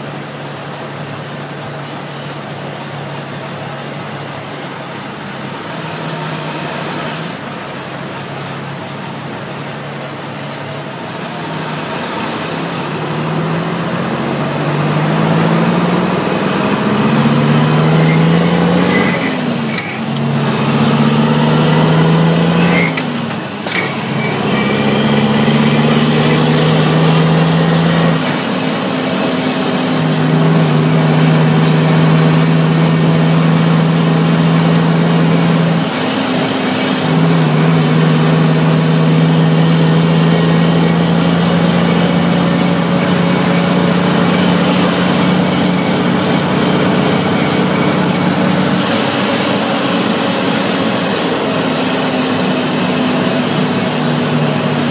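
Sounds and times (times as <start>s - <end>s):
diesel truck engine under load: 0.0s - 54.9s.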